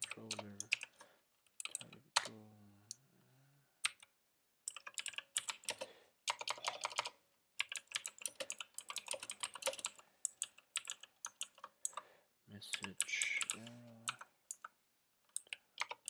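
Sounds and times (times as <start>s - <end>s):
typing on computer keyboard: 0.0s - 2.4s, 4.7s - 12.0s, 12.7s - 16.0s.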